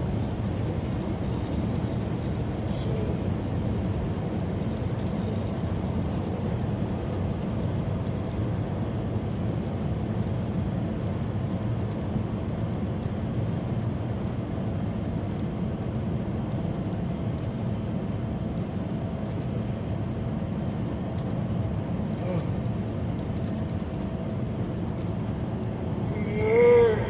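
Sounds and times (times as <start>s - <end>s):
truck cab road and engine rumble: 0.0s - 27.0s.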